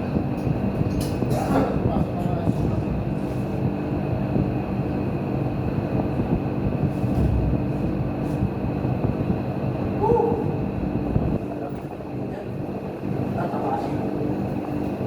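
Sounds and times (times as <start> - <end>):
engine running low rumble: 0.0 - 15.0.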